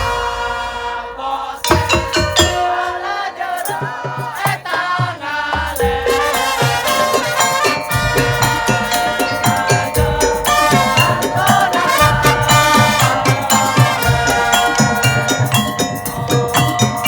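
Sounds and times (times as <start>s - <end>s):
heavy drum strokes: 0.0s - 17.0s
held melodic tones: 0.0s - 17.0s
struck percussion: 0.0s - 17.0s.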